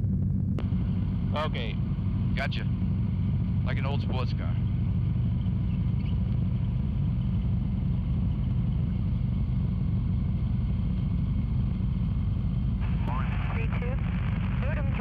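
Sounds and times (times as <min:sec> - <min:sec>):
helicopter engine rumbling: 0:00.0 - 0:15.0.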